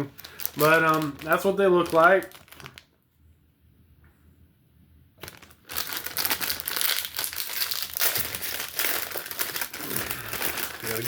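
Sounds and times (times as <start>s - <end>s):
plastic wrapper crinkling: 0.0s - 3.0s, 5.2s - 11.0s.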